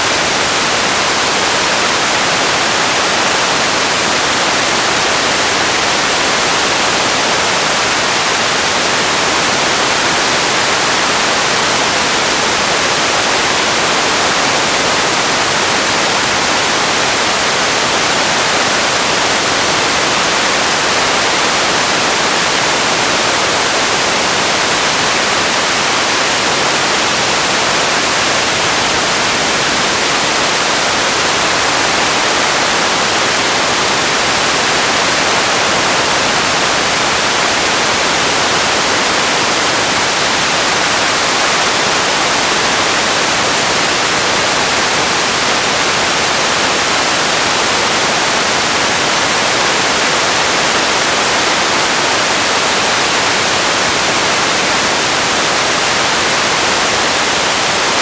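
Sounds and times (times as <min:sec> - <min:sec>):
loud static hiss: 0:00.0 - 0:58.0.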